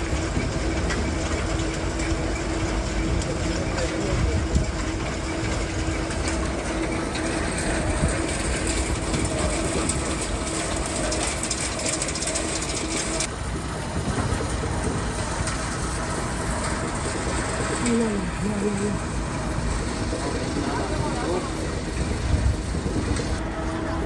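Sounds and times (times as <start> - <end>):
factory machinery running: 0.0 - 24.0.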